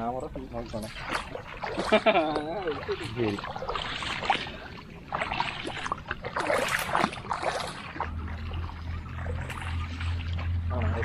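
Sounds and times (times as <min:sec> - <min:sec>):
low steady hum: 0:00.0 - 0:11.0
water splashing and sloshing: 0:00.0 - 0:11.0.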